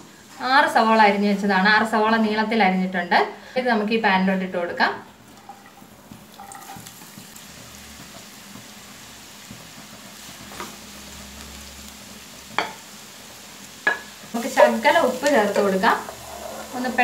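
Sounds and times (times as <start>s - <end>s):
onions sizzling in hot oil: 0.0s - 2.7s, 4.4s - 17.0s.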